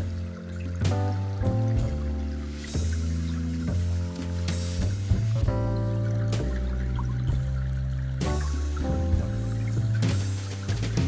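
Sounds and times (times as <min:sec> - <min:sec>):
background music with deep bass: 0:00.0 - 0:11.0.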